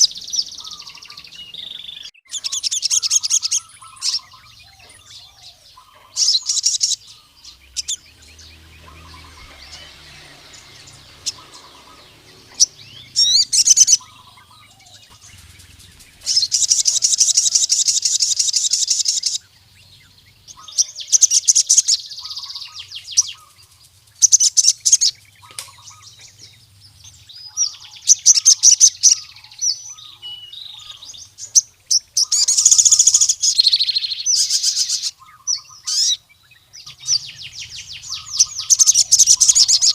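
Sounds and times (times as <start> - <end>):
sunbird singing chirps and trills: 0.0 - 39.9.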